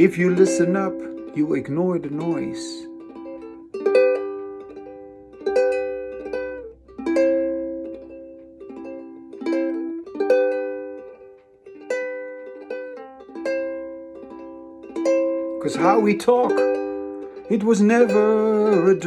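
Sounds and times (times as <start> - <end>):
acoustic string instrument strummed: 0.0 - 19.0.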